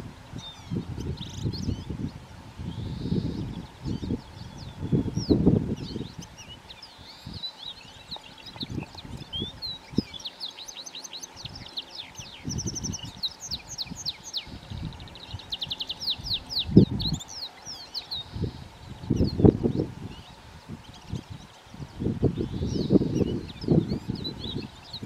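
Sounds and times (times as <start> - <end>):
canaries singing: 0.0 - 25.0.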